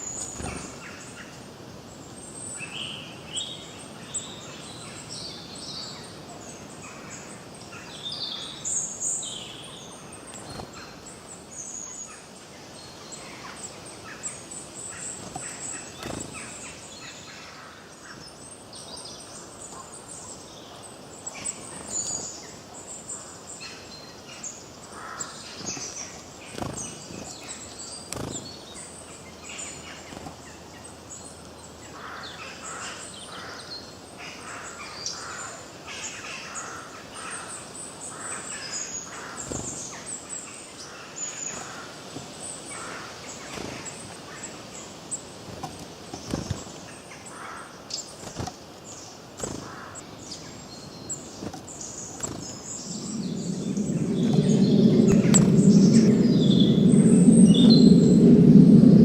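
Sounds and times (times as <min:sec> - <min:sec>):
songbirds chirping and singing: 0:02.0 - 0:59.0.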